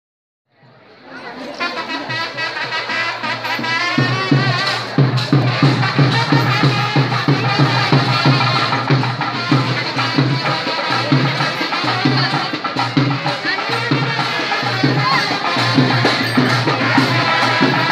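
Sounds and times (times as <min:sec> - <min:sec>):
high wind instrument melody: 0:01.4 - 0:17.9
steady drumbeat: 0:01.9 - 0:17.9.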